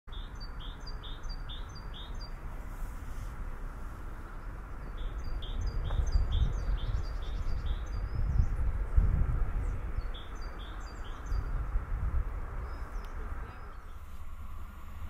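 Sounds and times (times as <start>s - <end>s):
faint open air hiss: 0.2s - 15.0s
low rumble: 2.2s - 15.0s.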